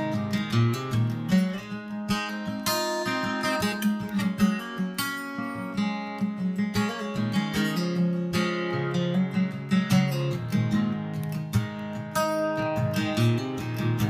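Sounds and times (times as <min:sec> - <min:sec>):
acoustic guitar strummed and picked: 0:00.0 - 0:14.0.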